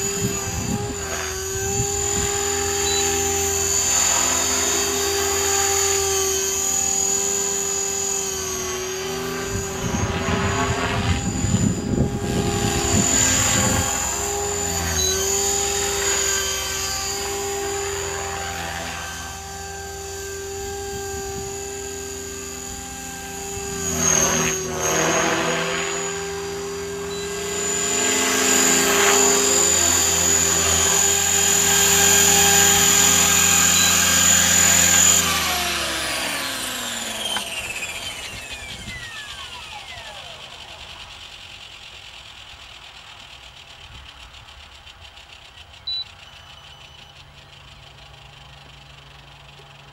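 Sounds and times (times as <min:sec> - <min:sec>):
rc helicopter motor whine: 0:00.0 - 0:49.9
rotor blades whooshing: 0:00.0 - 0:49.9.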